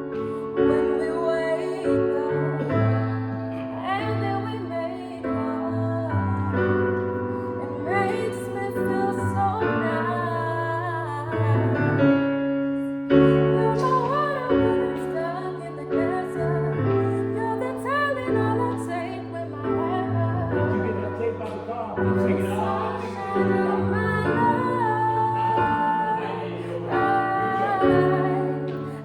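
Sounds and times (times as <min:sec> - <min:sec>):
woman singing: 0:00.0 - 0:11.9, 0:13.2 - 0:29.0
sustained keyboard chords: 0:00.0 - 0:29.0.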